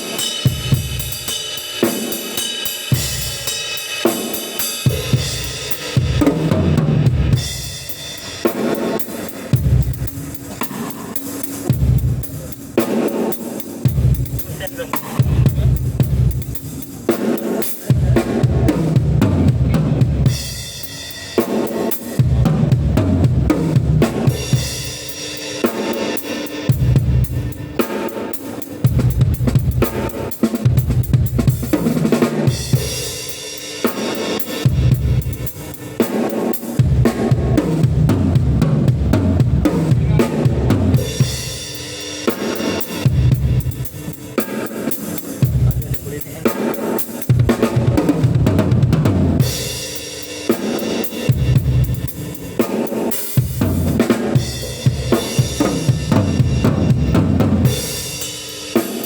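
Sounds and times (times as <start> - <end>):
drum kit playing groove: 0.0 - 59.0.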